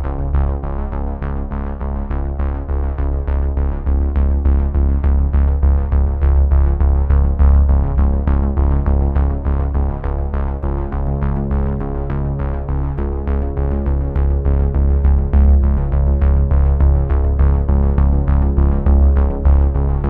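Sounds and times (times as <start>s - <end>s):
pulsing background music: 0.0s - 20.0s
sustained deep bass: 0.0s - 20.0s.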